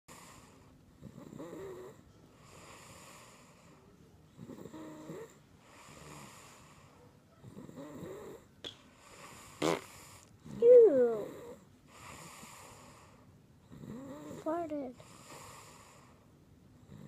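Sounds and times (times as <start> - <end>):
quiet breathing: 0.1 - 10.7, 11.3 - 17.0.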